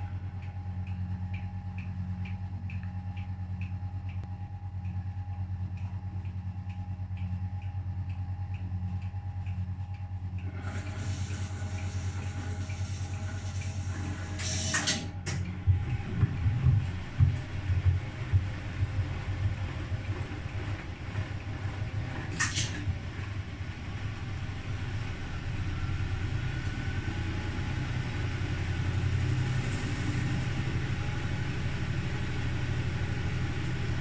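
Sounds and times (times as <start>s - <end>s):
washing machine motor hum: 0.0s - 34.0s.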